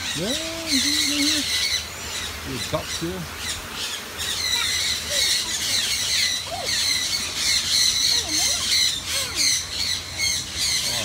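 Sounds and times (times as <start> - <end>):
birds squawking and chirping: 0.0 - 11.0.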